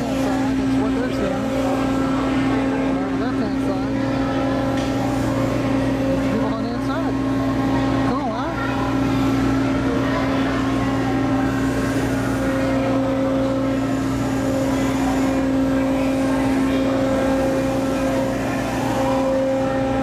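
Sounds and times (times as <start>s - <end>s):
ride machinery droning: 0.0s - 20.0s.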